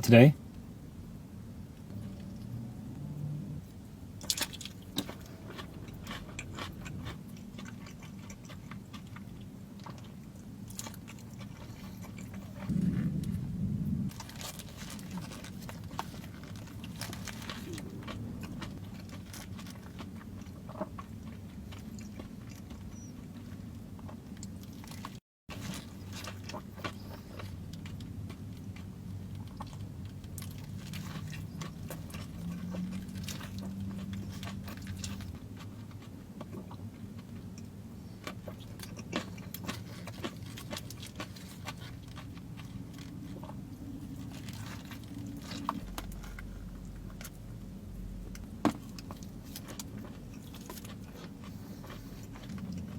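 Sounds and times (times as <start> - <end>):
low steady hum: 0.0 - 52.9
wet chewing and crunching: 4.1 - 52.9.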